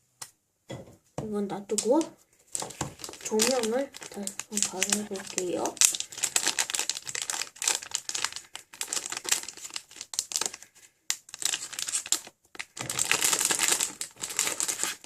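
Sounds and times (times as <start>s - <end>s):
plastic packaging crinkling: 1.7s - 15.0s.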